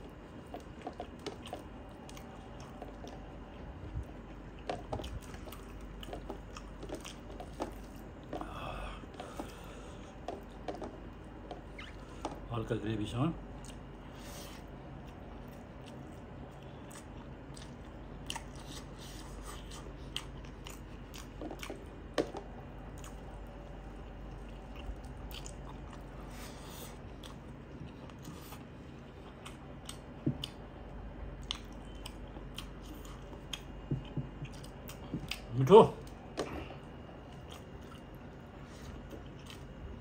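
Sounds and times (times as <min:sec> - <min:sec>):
person chewing food: 0:00.0 - 0:12.5, 0:13.5 - 0:40.0.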